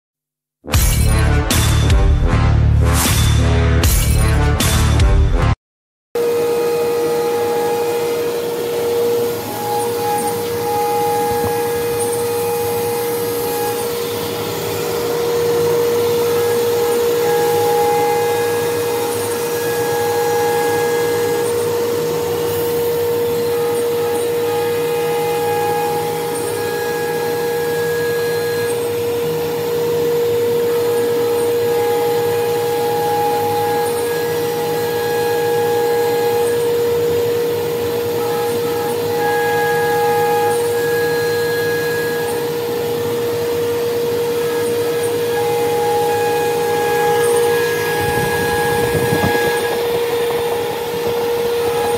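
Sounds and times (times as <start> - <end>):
higher router tones: 6.2 - 51.9
wood router spindle whine: 6.2 - 51.9.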